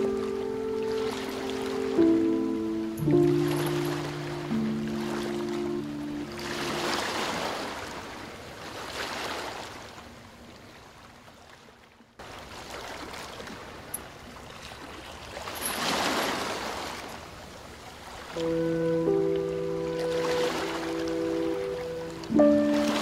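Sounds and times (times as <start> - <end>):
rushing noise like waves: 0.0 - 10.8, 12.2 - 23.0.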